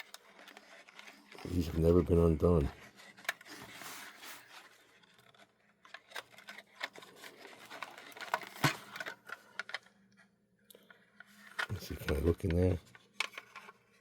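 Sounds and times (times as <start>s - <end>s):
hands handling plastic model: 0.0s - 14.0s.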